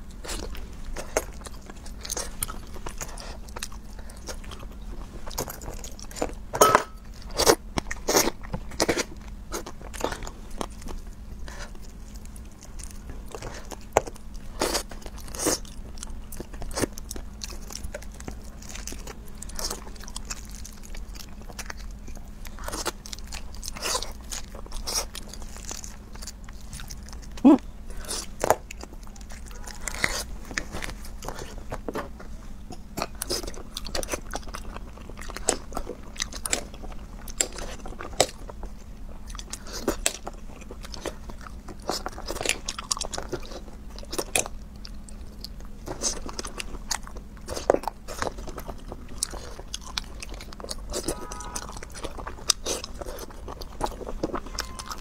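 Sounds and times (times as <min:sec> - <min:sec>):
wet chewing: 0:00.0 - 0:55.0.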